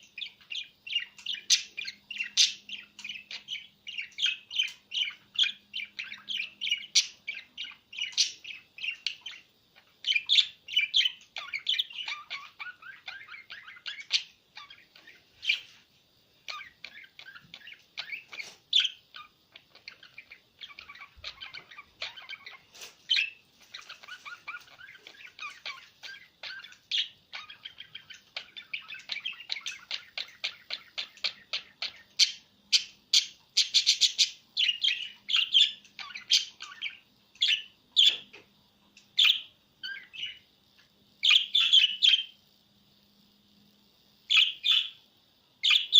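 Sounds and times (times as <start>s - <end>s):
small bird chirping: 0.0s - 45.9s.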